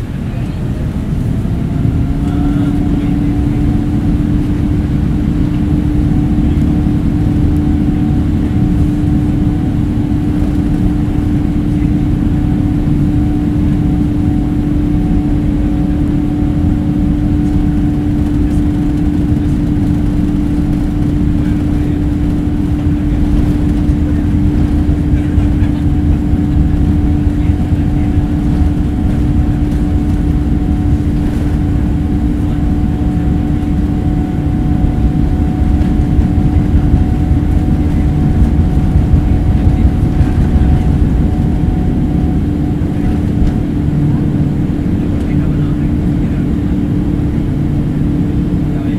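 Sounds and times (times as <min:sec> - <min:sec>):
airplane cabin rumble: 0:00.0 - 0:48.9.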